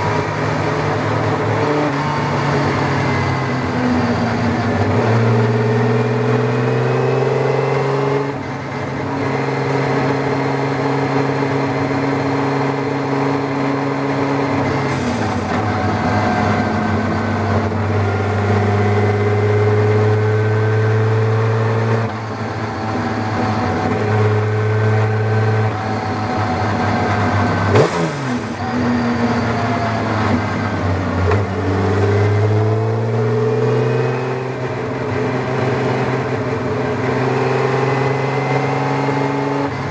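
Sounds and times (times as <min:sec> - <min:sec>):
racing engine under load: 0:00.0 - 0:39.9.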